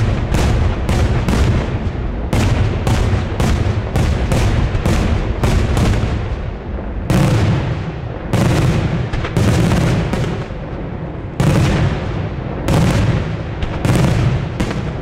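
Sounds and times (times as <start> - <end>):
fireworks bangs: 0.0 - 15.0
rolling echoes rumbling: 0.0 - 15.0.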